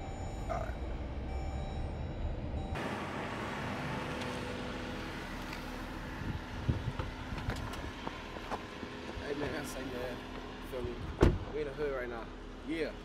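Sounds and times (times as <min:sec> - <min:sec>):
road and engine rumble in cabin: 0:00.0 - 0:13.0.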